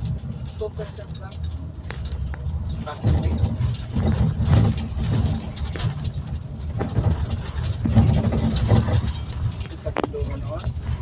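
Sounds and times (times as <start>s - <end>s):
diesel engine drone: 0.0s - 11.0s
light knocks and rattles: 0.0s - 11.0s
road rumble: 0.0s - 11.0s.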